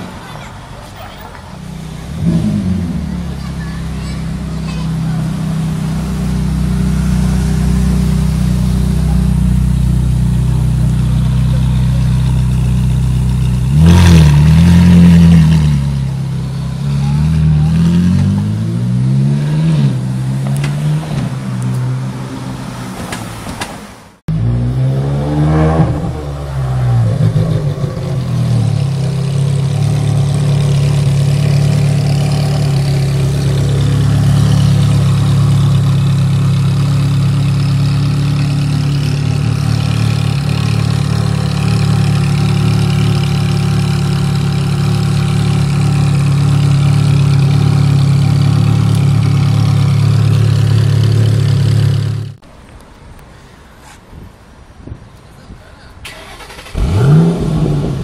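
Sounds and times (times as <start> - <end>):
car engine revving and idling: 0.0 - 22.9, 24.2 - 52.4, 56.1 - 58.0.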